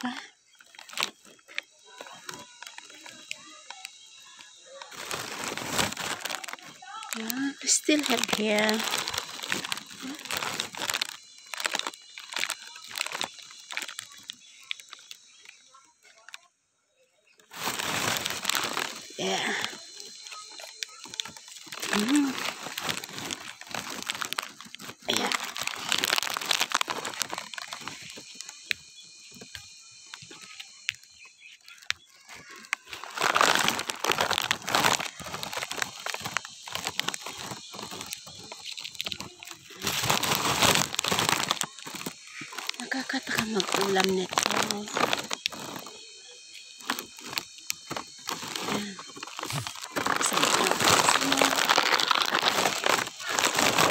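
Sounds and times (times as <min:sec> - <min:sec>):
leaves rustling and crackling: 0:00.0 - 0:16.4, 0:17.4 - 0:53.9.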